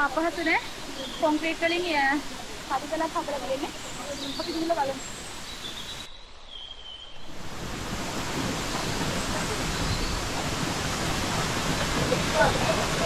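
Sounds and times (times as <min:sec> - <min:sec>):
waterfall rushing: 0:00.0 - 0:06.1, 0:07.2 - 0:13.0.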